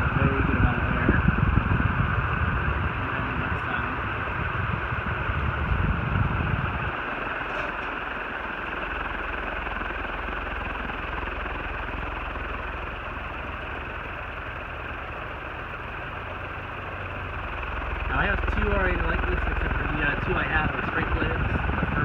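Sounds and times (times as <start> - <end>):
ceiling fan rushing air: 0.0 - 22.0
low rumble: 0.0 - 22.0.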